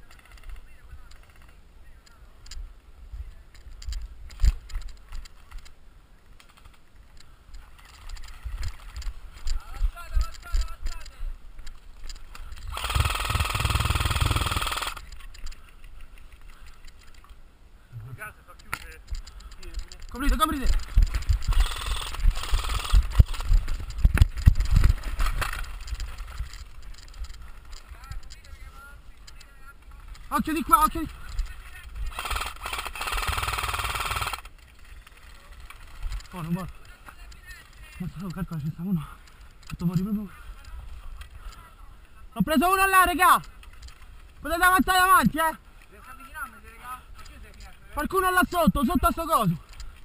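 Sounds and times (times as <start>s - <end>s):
sharp clicks: 0.0s - 2.6s, 3.5s - 17.4s, 18.5s - 28.6s, 29.2s - 41.7s, 42.5s - 45.6s
gear rattling and rustling: 3.5s - 17.4s, 18.4s - 41.8s, 42.7s - 50.0s.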